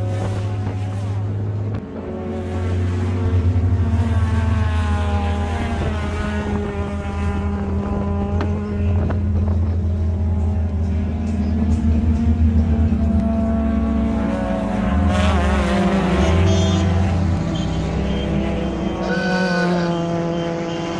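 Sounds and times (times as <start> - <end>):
car engines running: 0.0 - 20.9.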